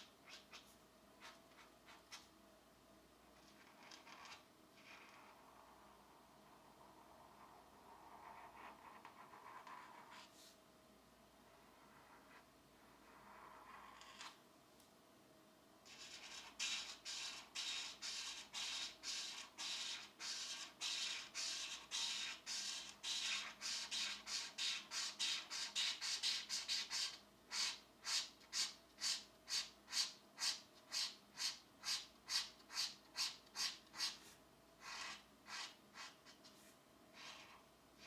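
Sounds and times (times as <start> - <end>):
colored pencil scratching on paper: 0.0 - 2.2, 3.4 - 5.9, 6.6 - 10.6, 11.6 - 14.3, 15.9 - 38.0.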